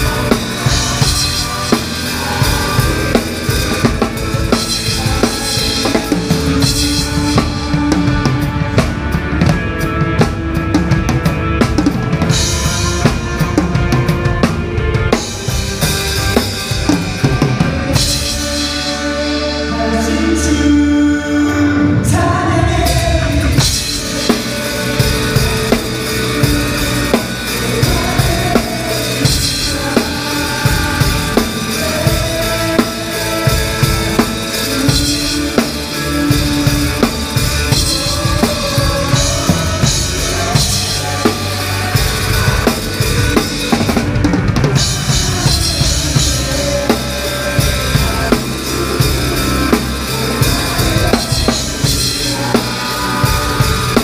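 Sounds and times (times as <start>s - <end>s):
drum kit playing: 0.0s - 54.0s
sustained accompanying music: 0.0s - 54.0s.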